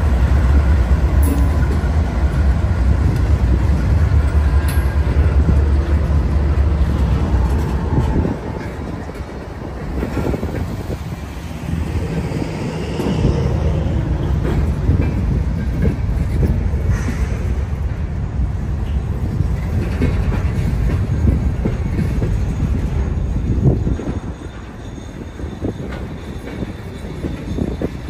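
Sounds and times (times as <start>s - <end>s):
freight train rumbling past: 0.0s - 28.0s
wheels clattering over rail joints: 0.0s - 28.0s.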